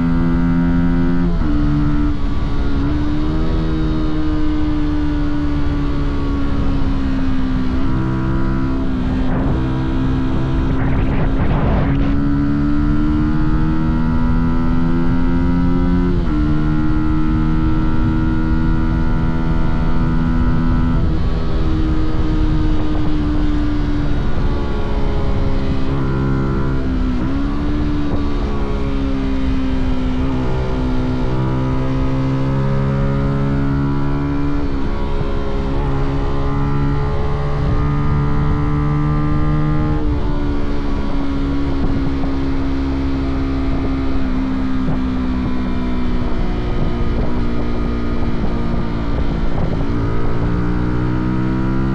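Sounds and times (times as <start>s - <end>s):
motorcycle engine and exhaust: 0.0s - 51.9s
wind and road rumble: 0.0s - 51.9s.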